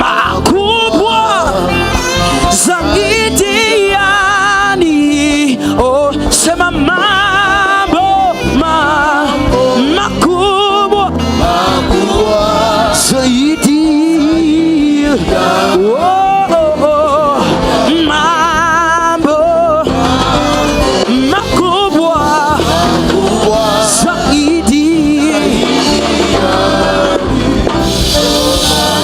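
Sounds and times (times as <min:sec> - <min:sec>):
band accompaniment: 0:00.0 - 0:29.0
person singing with vibrato: 0:00.0 - 0:29.0.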